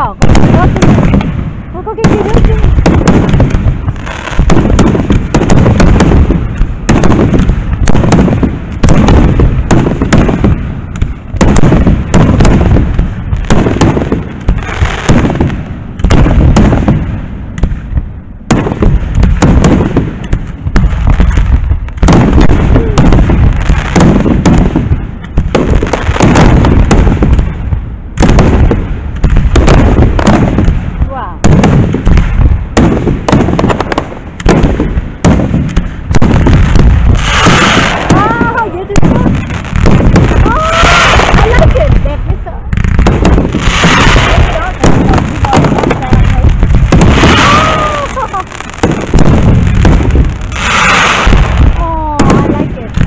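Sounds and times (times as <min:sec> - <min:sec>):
fireworks bursting booms: 0:00.0 - 0:53.0.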